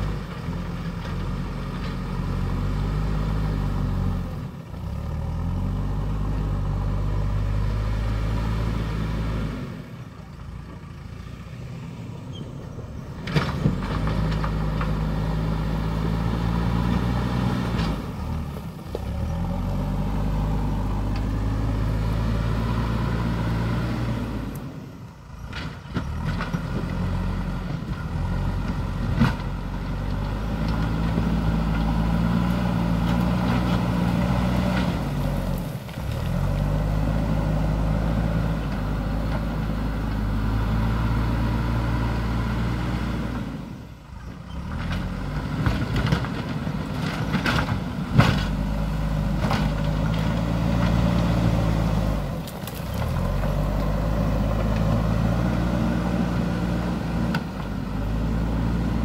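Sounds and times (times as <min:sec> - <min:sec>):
diesel engine working under load: 0:00.0 - 0:59.0.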